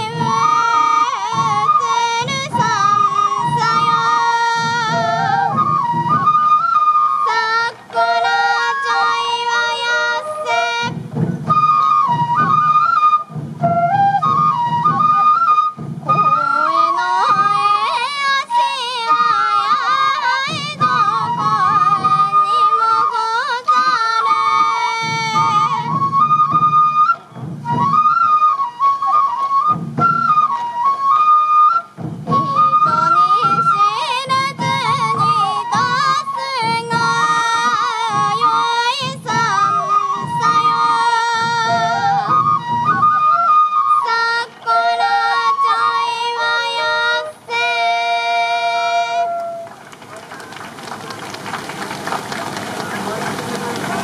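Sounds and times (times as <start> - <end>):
taiko drums: 0.0 - 48.0, 49.1 - 54.0
bamboo flute melody: 0.0 - 54.0.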